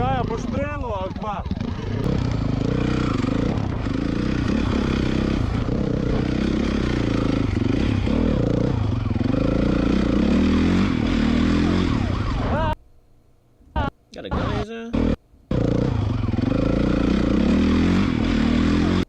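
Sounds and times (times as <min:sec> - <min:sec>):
dirt bike engine revving: 0:00.0 - 0:12.8, 0:14.3 - 0:19.0.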